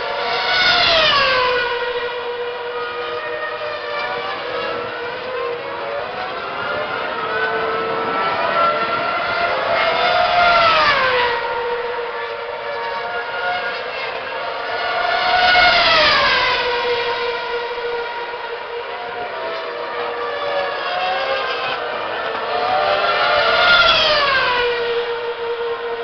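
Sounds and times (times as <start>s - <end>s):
distant racing car engines: 0.0s - 26.0s
racing cars passing at high revs: 0.0s - 26.0s.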